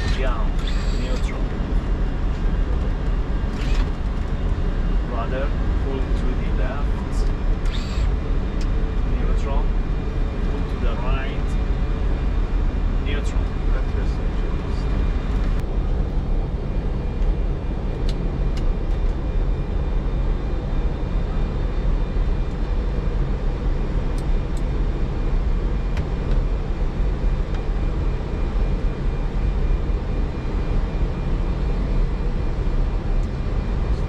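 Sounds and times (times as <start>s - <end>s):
cockpit engine rumble: 0.0s - 34.0s
faint steady whine: 0.0s - 34.0s.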